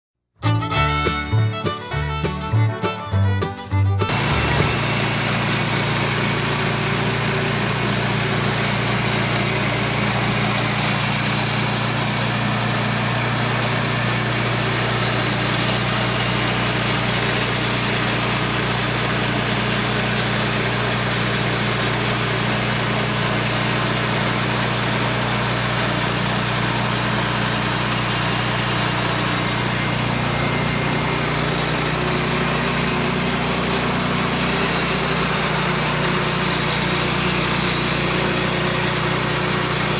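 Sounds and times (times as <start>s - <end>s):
band sawmill cutting log: 0.4s - 39.9s.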